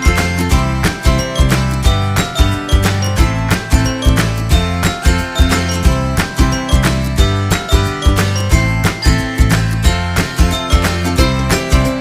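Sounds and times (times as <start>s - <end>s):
guitar music with steady beat: 0.0s - 12.0s.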